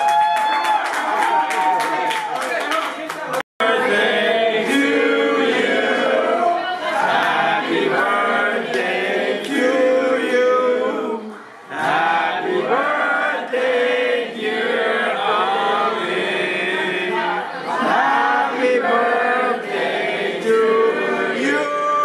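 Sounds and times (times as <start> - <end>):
group singing in unison: 3.6 - 22.0.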